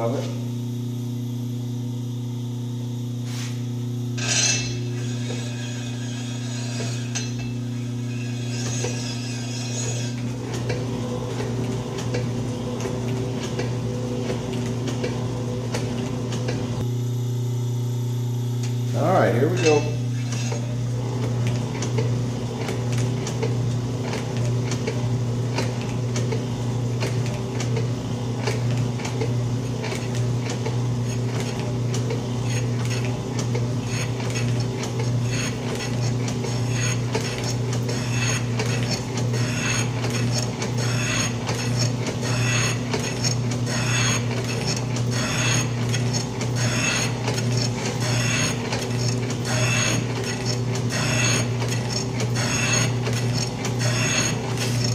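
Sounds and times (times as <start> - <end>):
motor hum: 0.0 - 54.9.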